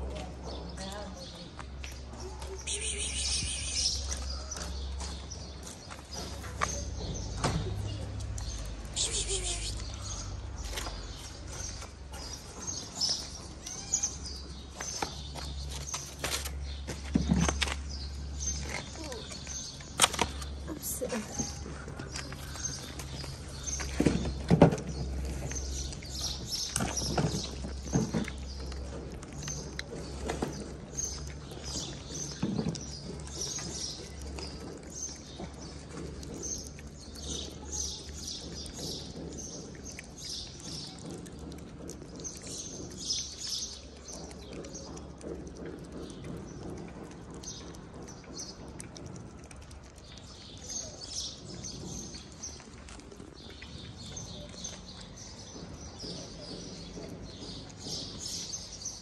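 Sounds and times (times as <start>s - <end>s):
birds chirping: 0.0s - 59.0s
cats chewing wet food: 0.0s - 59.0s.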